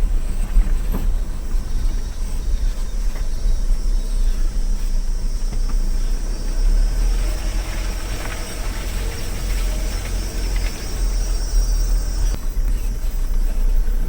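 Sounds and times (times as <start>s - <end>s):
engine and tyre rumble: 0.0s - 14.0s.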